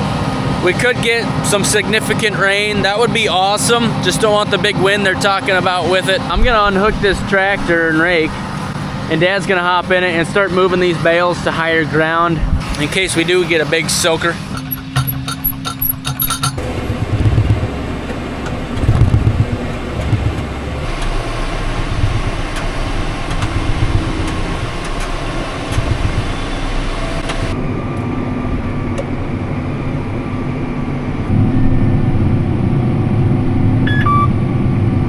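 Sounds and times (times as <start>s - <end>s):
tractor engine running: 0.0s - 31.4s.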